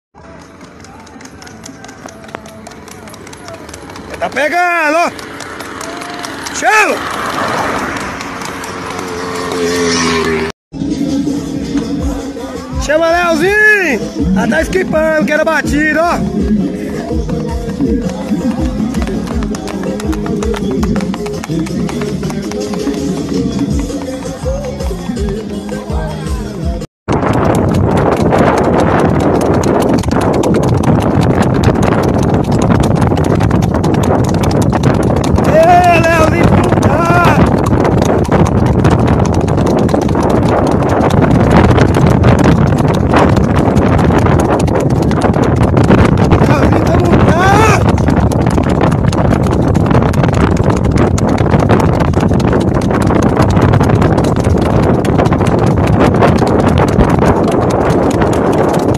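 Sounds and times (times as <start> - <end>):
horse hoofbeats on asphalt: 0.2 - 10.5, 11.1 - 58.9.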